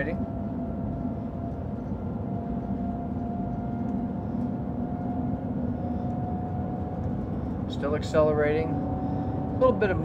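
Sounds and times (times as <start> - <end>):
train cabin low rumble: 0.0 - 10.0.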